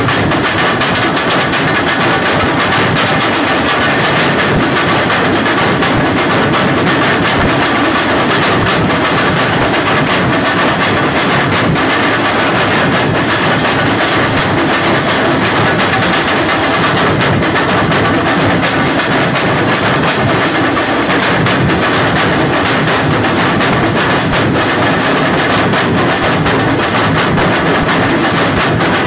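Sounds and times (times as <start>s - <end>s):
group of drums beating: 0.0s - 29.0s.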